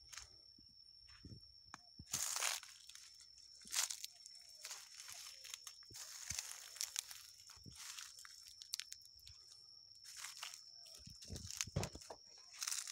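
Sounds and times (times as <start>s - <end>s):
dry leaves crunching and rustling: 2.1s - 12.9s.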